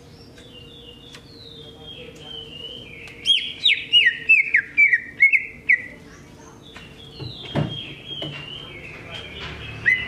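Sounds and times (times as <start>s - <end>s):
bird singing whistled notes: 0.0s - 6.0s, 6.6s - 10.0s.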